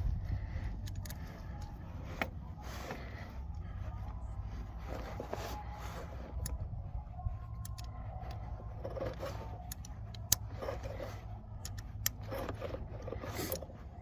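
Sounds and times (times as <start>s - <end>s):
metallic clicks and scrapes of tools: 0.0s - 14.0s
steady low hum: 0.0s - 14.0s.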